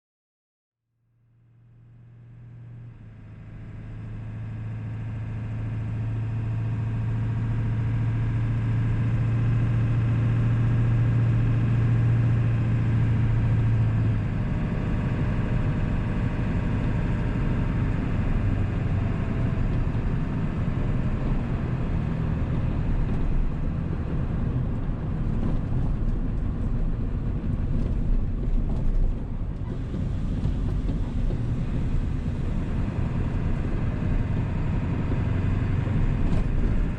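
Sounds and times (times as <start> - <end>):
road rumble: 1.4 - 36.9
diesel engine running: 2.2 - 36.9.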